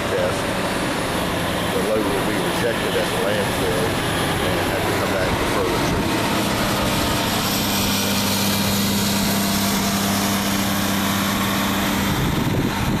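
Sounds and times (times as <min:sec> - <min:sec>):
heavy equipment engine running: 0:00.0 - 0:13.0.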